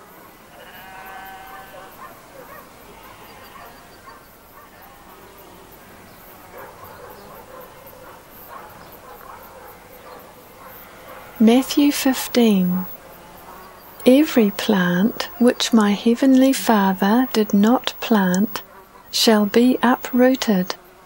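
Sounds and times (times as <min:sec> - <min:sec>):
distant animal calls: 0:00.3 - 0:20.8.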